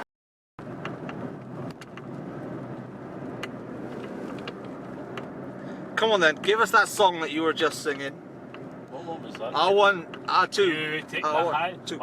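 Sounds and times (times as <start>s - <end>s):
car engine from inside cabin: 0.6s - 12.0s
road noise: 0.6s - 12.0s.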